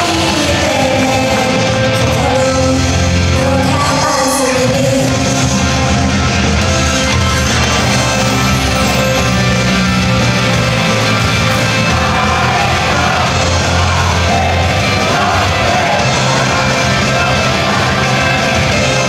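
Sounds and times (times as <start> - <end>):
pop-rock song over sound system: 0.0 - 19.0
voices singing and shouting: 0.0 - 19.0.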